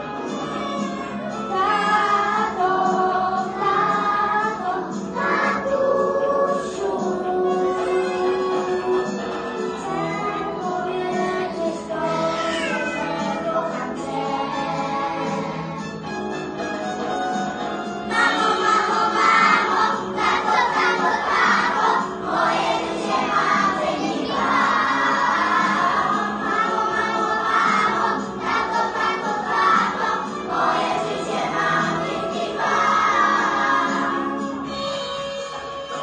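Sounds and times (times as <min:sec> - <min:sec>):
recorded backing music: 0:00.0 - 0:36.0
children singing together: 0:00.2 - 0:16.0, 0:18.0 - 0:34.8.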